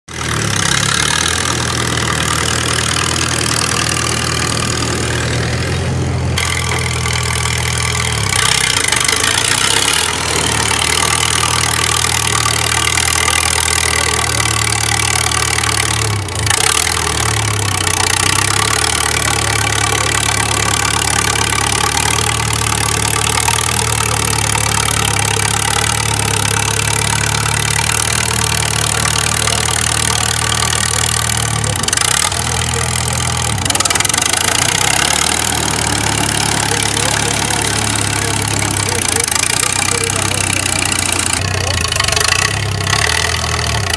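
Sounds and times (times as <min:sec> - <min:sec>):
bulldozer engine running: 0:00.0 - 0:43.9.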